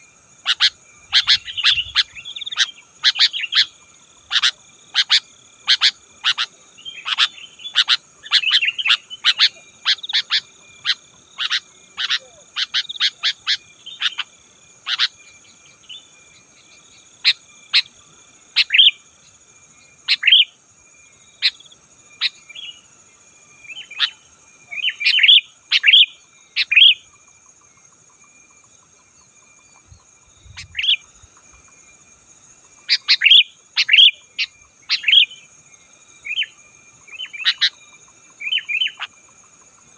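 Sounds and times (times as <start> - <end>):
bulbuls chirping: 0.0 - 20.6, 23.6 - 27.1, 29.8 - 31.5, 32.7 - 35.6, 36.2 - 39.6.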